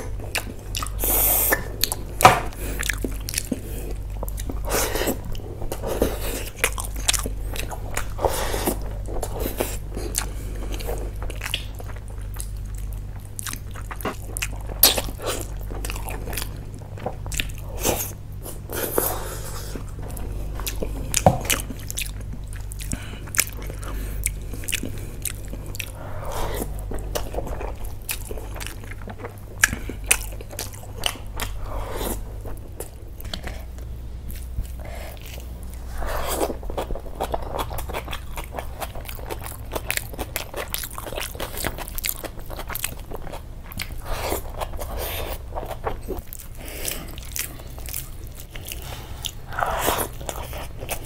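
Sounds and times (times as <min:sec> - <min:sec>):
low hum: 0:00.0 - 0:51.0
person chewing food: 0:00.0 - 0:51.0.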